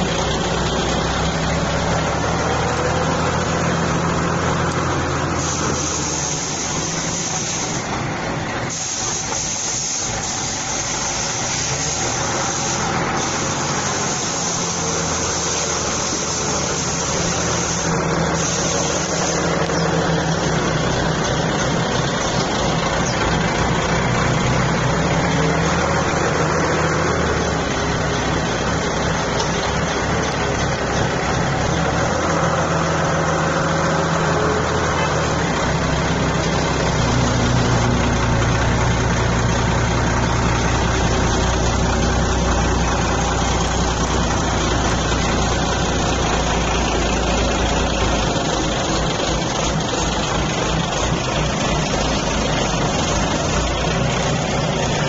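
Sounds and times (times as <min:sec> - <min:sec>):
heavy vehicle engine running: 0:00.0 - 0:55.0.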